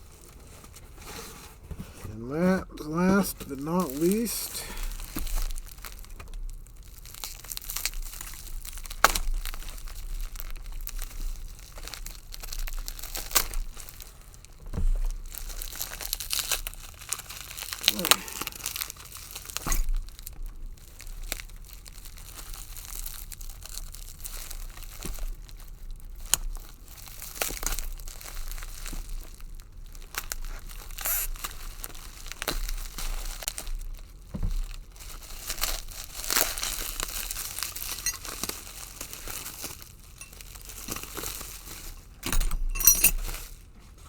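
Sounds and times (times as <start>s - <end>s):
packing material rustling and crackling: 0.0s - 44.0s.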